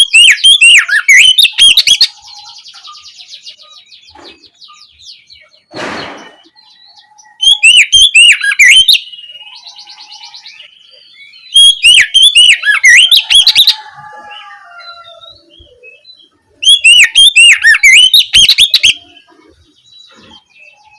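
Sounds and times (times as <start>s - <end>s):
songbird whistling song: 0.0s - 20.9s.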